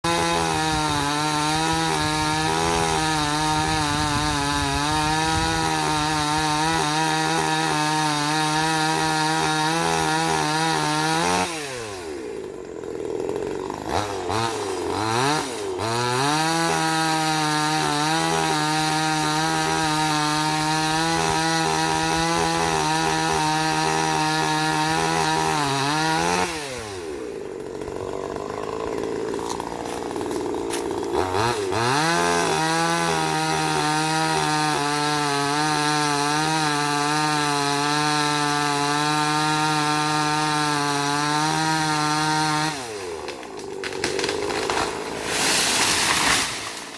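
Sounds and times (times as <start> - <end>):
chainsaw engine revving and idling: 0.0 - 46.9.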